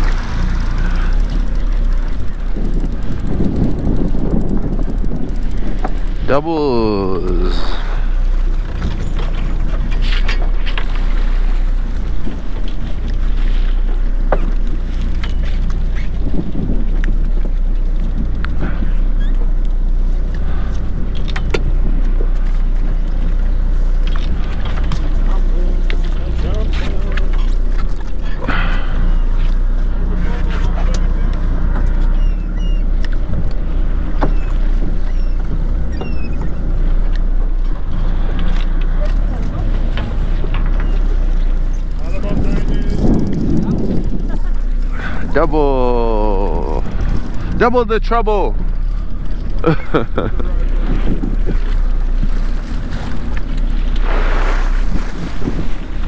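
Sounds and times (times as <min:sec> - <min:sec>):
boat engine humming: 0:00.0 - 0:56.0
wind buffeting microphone: 0:00.0 - 0:56.0.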